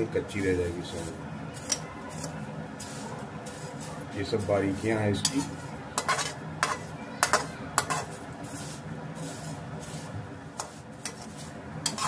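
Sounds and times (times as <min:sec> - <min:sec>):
metal spoon scraping a pan: 0:00.2 - 0:12.0.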